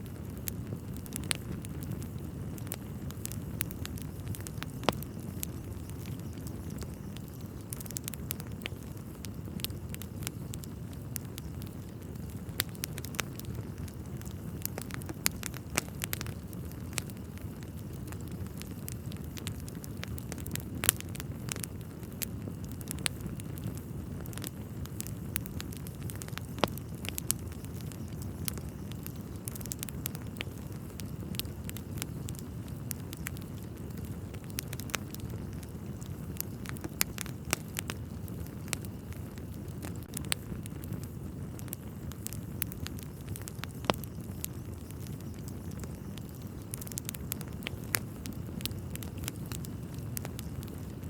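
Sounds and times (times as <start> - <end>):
fire low rumble: 0.0 - 51.0
wood fire crackling and popping: 0.0 - 51.0.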